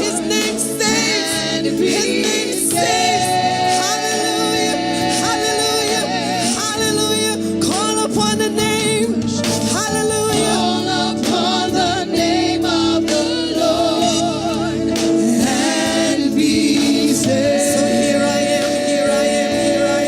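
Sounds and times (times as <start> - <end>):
gospel choir with band: 0.0 - 20.0.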